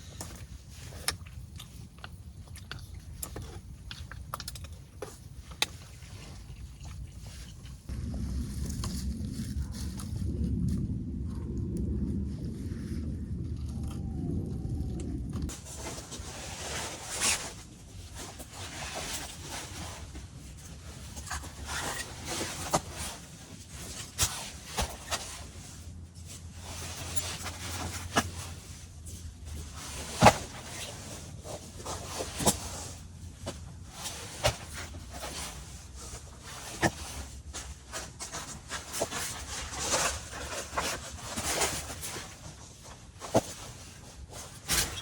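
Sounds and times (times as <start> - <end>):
low steady background noise: 0.0 - 45.0.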